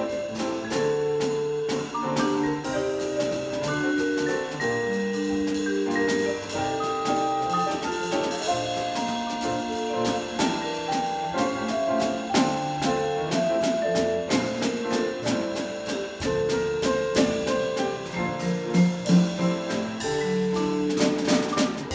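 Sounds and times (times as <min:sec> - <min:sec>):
drum kit beat with cymbal: 0:00.0 - 0:21.9
piano: 0:00.0 - 0:21.9
vibraphone notes: 0:00.0 - 0:21.9.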